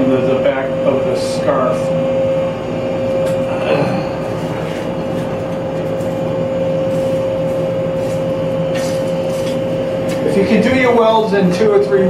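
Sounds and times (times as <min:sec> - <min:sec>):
electric blower fan whining: 0:00.0 - 0:12.0.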